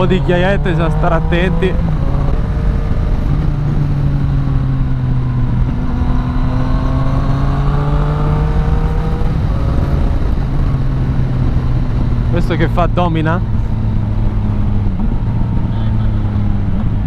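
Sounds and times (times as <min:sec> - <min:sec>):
motorcycle engine running: 0:00.0 - 0:17.0
road rumble: 0:00.0 - 0:17.0
wind: 0:00.0 - 0:17.0.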